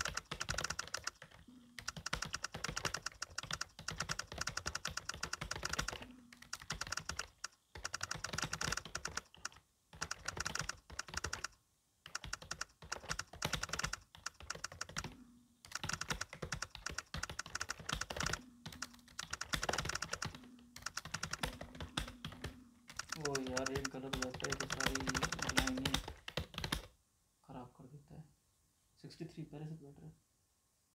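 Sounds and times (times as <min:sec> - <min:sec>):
fast typing on keyboard: 0:00.0 - 0:26.9.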